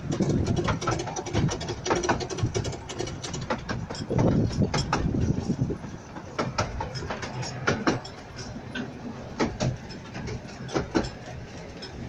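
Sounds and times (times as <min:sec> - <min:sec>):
clicks and rattles: 0:00.0 - 0:12.0
wheels rumbling on rails: 0:00.0 - 0:12.0.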